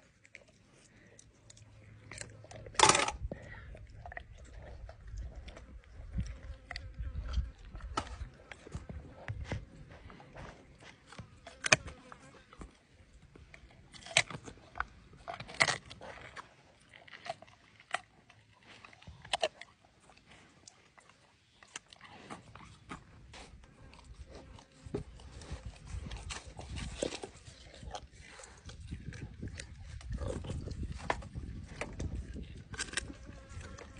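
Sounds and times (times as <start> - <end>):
jaguar chewing raw meat: 0.0 - 33.9.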